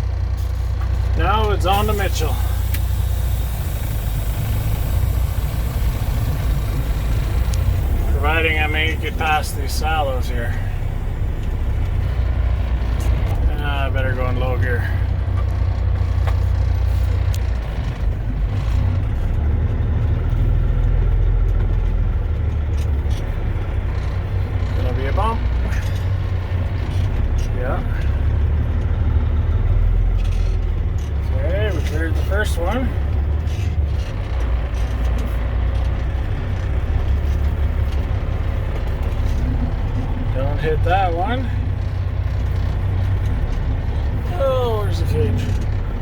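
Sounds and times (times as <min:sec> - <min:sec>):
truck diesel engine rumbling: 0:00.0 - 0:46.0
faint clicks and rattles: 0:00.1 - 0:46.0.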